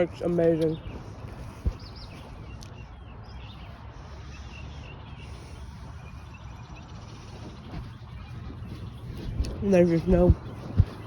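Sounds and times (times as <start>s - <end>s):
low rumble on microphone: 0.0s - 11.0s
faint bird chirps: 0.5s - 11.0s.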